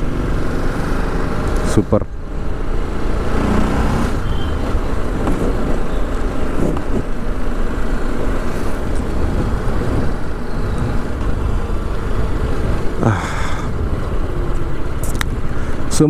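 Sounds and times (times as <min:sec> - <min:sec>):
motorcycle engine and road rumble: 0:00.0 - 0:16.0
surrounding traffic: 0:00.0 - 0:16.0.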